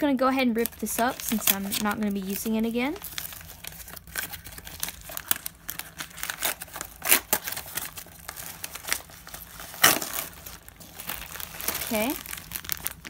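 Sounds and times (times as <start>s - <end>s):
envelope tearing and crinkling: 0.6s - 13.0s.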